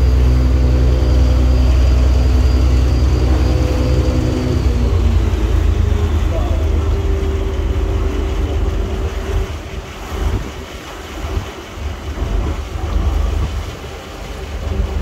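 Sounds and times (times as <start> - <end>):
boat engine rumbling: 0.0 - 15.0
steady hum: 0.0 - 15.0
water washing past: 0.0 - 15.0
wind buffeting microphone: 0.0 - 15.0.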